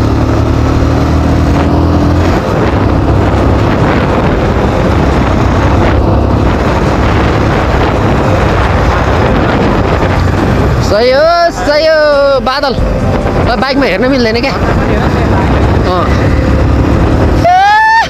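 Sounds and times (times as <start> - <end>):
motorcycle engine running: 0.0 - 17.9
wind rush on microphone: 0.0 - 18.0.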